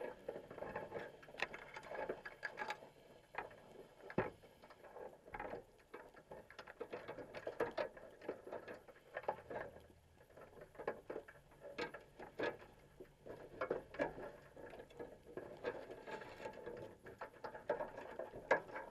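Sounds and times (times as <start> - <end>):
crabs clicking on wire mesh: 0.1 - 18.9.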